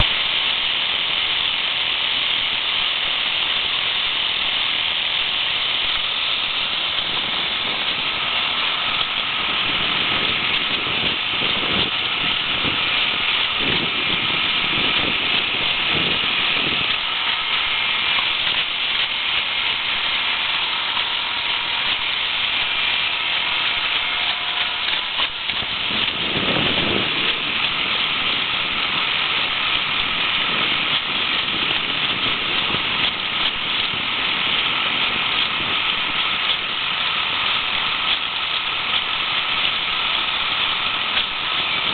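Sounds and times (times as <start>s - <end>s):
motorboat under way: 0.0s - 41.9s
wind and water noise: 0.0s - 41.9s.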